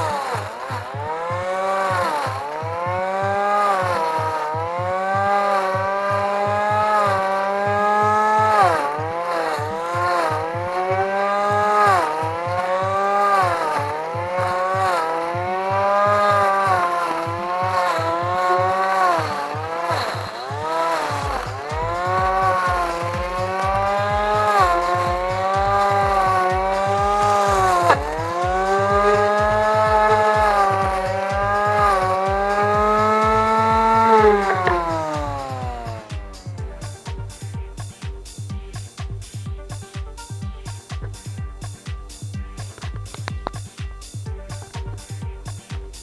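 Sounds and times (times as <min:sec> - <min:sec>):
electric motor driving mower blade: 0:00.0 - 0:37.2
steady low beat: 0:00.0 - 0:46.0.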